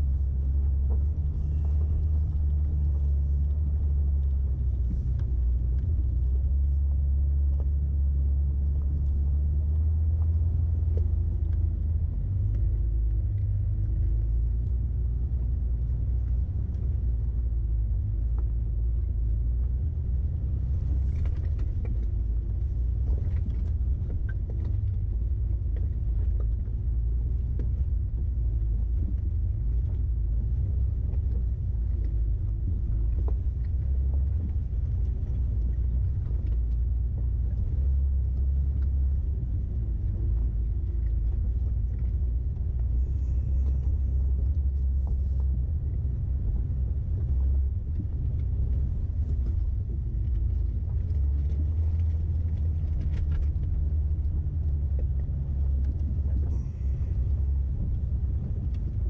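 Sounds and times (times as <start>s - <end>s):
vehicle engine low rumble: 0.0s - 59.0s.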